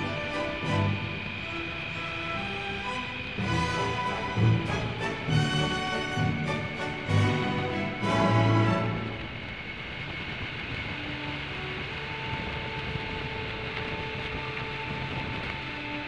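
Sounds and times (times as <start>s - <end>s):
music: 0.0s - 9.8s, 10.6s - 16.0s
motorcycle engine drone: 0.0s - 16.0s
rushing wind: 0.0s - 16.0s.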